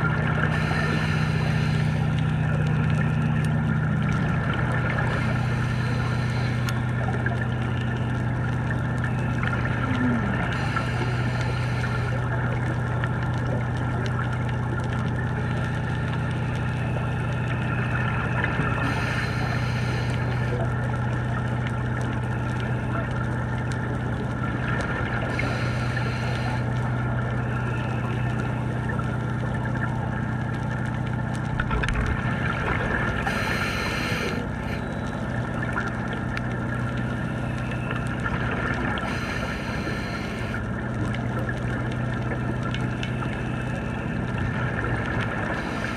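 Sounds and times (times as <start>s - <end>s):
boat motor hum underwater: 0.0s - 45.9s
scuba exhaust bubbles: 0.0s - 45.9s.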